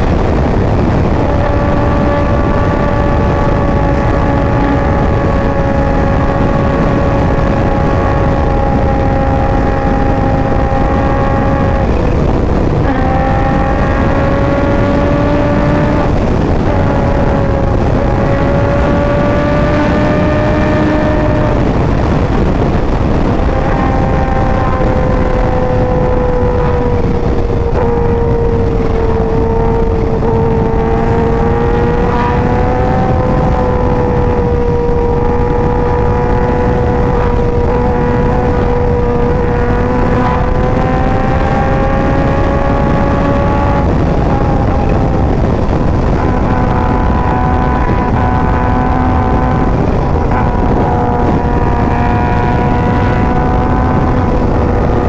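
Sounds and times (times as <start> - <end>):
heavy wind rush: 0.0 - 55.0
motorcycle engine cruising: 0.0 - 55.0.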